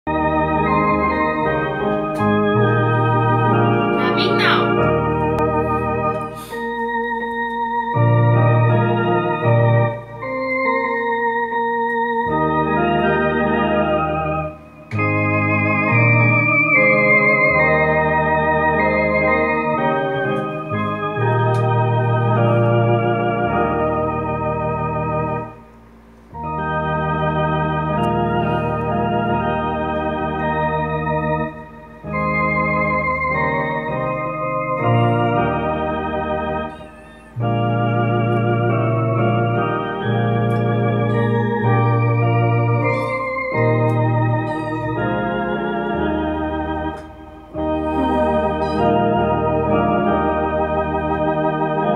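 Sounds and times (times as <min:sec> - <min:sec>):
electronic organ playing hymn: 0:00.0 - 0:51.9.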